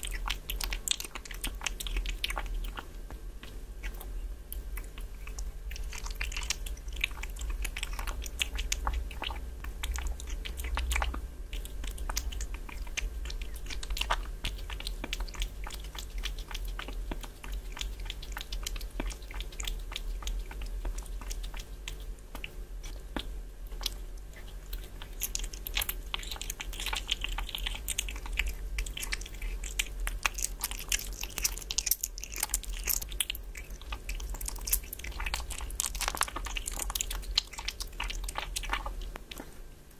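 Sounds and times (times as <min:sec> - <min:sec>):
kitten chewing meat: 0:00.0 - 0:39.9.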